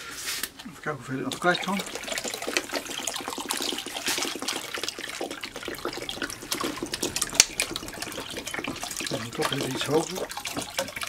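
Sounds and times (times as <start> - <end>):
liquid pouring and splashing: 0.5 - 11.0.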